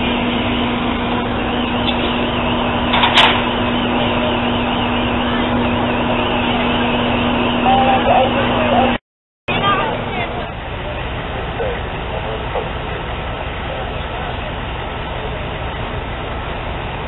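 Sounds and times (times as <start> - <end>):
fire engines running: 0.0 - 17.0.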